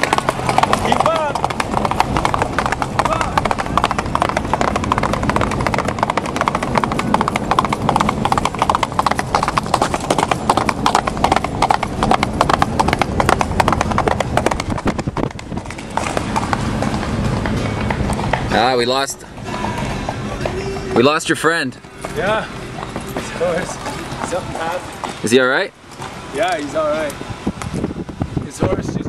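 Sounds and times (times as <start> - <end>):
horse hoofbeats on dirt road: 0.0 - 27.8
car road rumble: 0.0 - 29.0.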